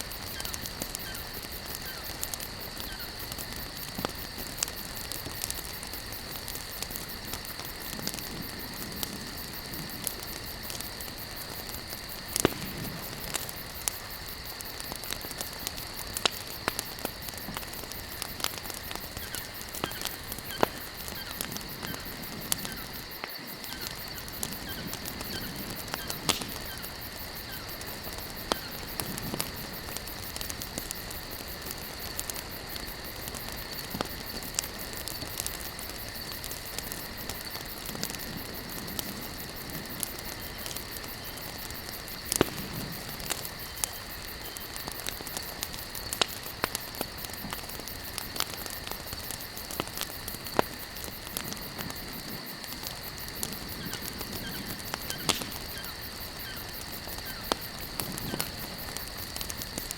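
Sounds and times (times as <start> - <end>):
campfire crackling and popping: 0.0 - 59.9
insect chorus trilling: 0.0 - 59.9.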